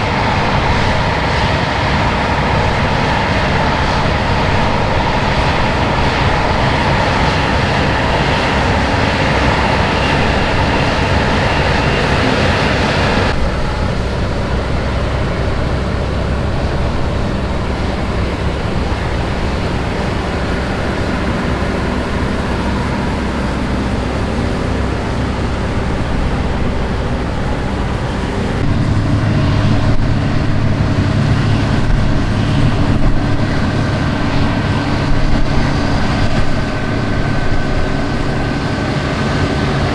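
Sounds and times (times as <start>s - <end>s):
combine harvester running: 0.0s - 39.9s
deeper hum: 0.0s - 39.9s.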